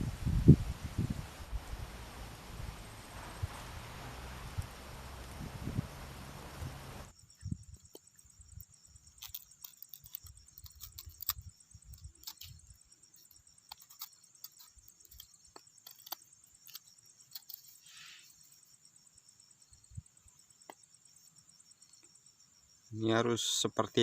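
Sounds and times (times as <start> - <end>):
insect chirring: 0.1 - 24.0.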